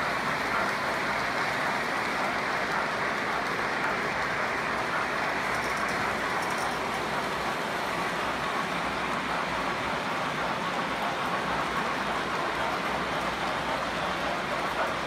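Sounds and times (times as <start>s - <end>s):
model train wheels rolling on rail: 0.0s - 15.0s.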